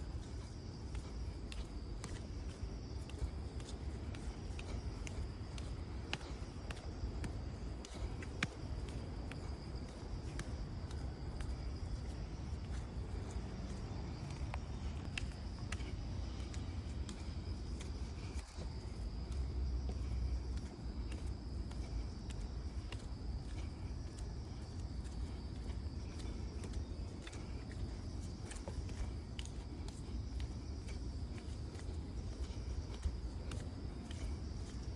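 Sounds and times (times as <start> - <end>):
continuous low rumble: 0.0 - 34.9
insects chirring: 0.0 - 34.9
small ticks: 0.0 - 34.9.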